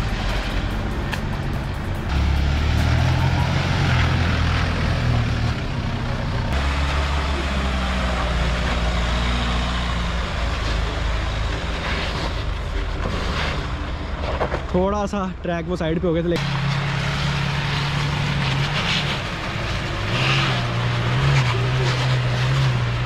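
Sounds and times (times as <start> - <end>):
water and tyres hissing: 0.0 - 14.6, 16.4 - 23.0
vehicle engine drone: 0.0 - 23.0.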